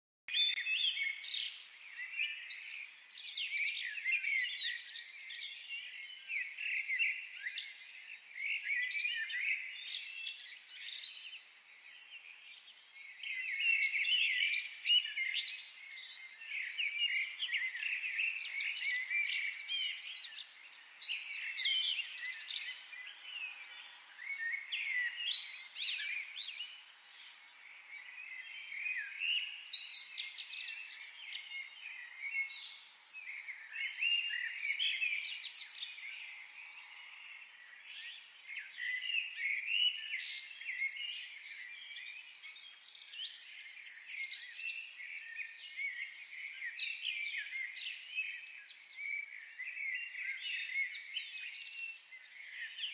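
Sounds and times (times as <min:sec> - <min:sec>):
songbirds chirping and singing: 0:00.3 - 0:52.9.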